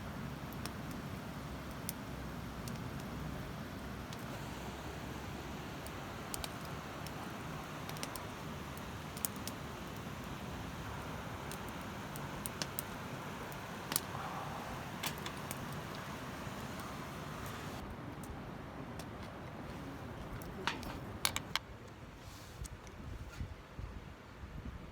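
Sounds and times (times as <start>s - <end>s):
low background hiss: 0.0s - 22.7s.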